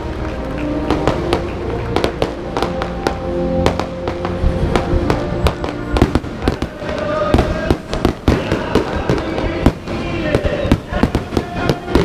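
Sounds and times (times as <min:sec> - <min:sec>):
fireworks bangs and crackles: 0:00.0 - 0:12.0
music with sustained melody: 0:00.0 - 0:12.0.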